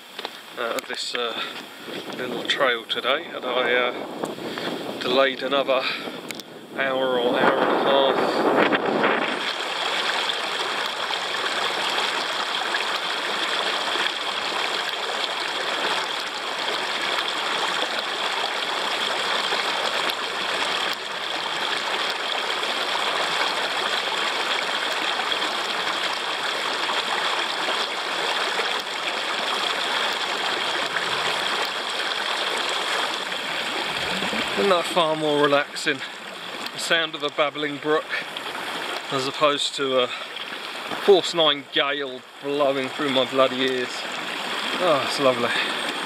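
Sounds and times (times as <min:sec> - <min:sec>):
stream babbling over rocks: 0:00.0 - 0:46.0.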